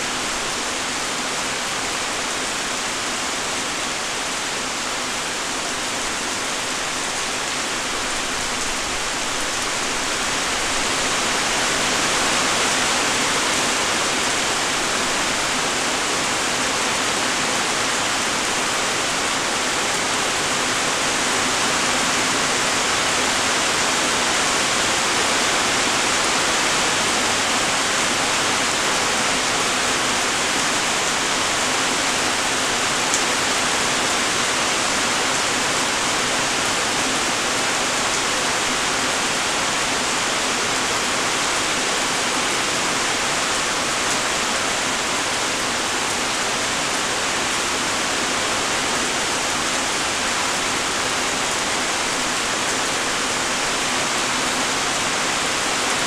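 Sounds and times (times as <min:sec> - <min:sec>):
light rain hiss: 0:00.0 - 0:56.0.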